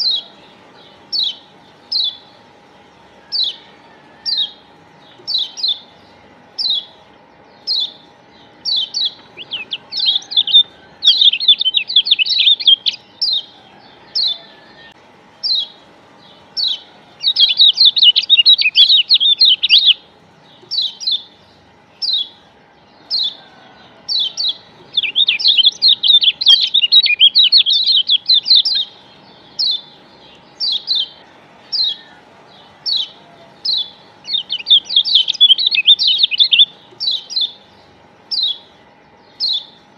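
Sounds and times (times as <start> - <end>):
bird chirping and chattering: 0.0 - 14.6, 15.4 - 39.9.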